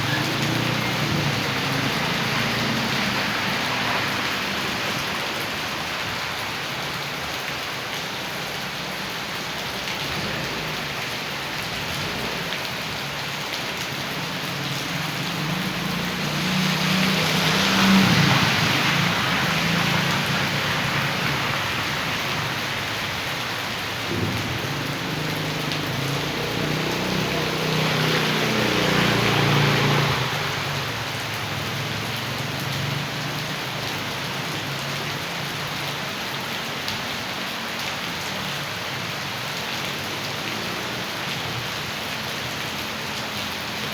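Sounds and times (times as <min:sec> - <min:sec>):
heavy rain: 0:00.0 - 0:43.9
rushing rainwater runoff: 0:00.0 - 0:43.9.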